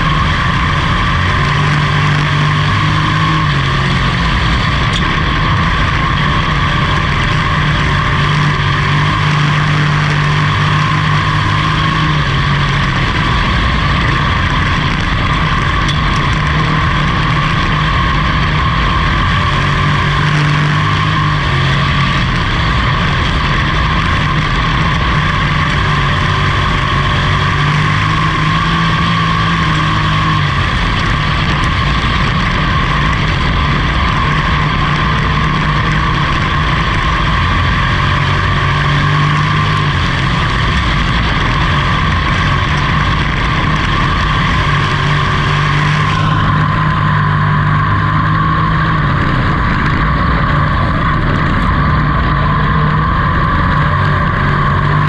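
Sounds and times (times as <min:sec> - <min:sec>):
race car engine: 0:00.0 - 0:55.0
road and wind noise: 0:00.0 - 0:55.0.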